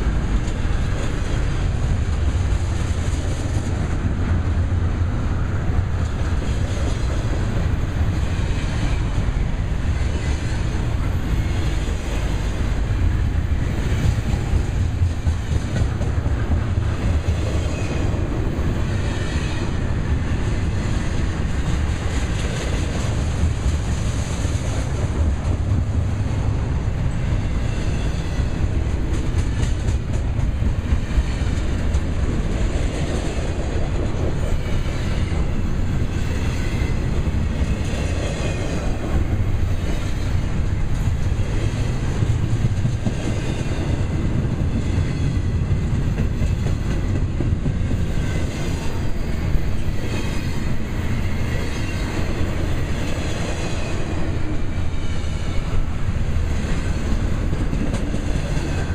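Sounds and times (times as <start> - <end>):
clickety-clack over rail joints: 0.0 - 58.9
train wheels rumbling on rails: 0.0 - 58.9.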